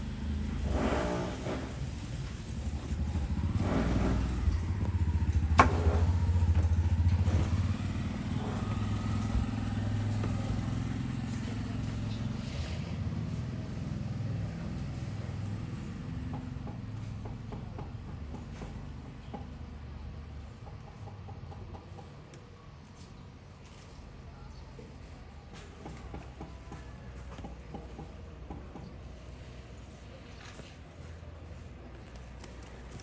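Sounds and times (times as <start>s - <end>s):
motor vehicle engine rumbling: 0.0s - 33.0s.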